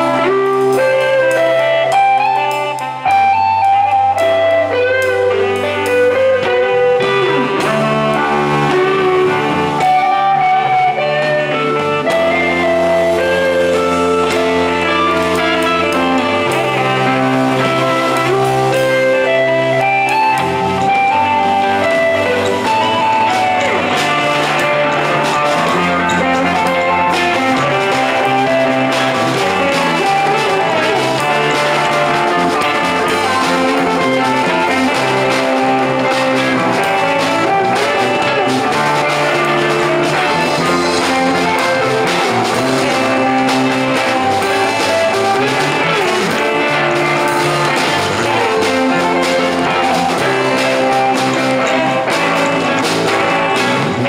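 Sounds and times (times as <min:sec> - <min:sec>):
bass guitar: 0:00.0 - 0:54.0
drums: 0:00.0 - 0:54.0
electric guitars: 0:00.0 - 0:54.0.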